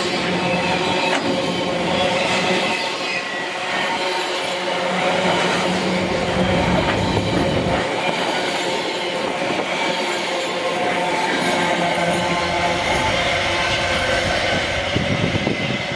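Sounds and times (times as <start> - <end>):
freight train rumbling on rails: 0.0 - 15.9.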